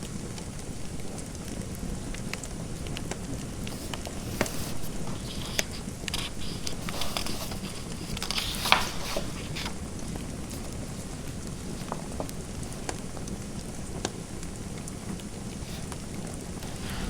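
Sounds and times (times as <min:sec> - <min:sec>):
fireplace crackling: 0:00.3 - 0:17.0.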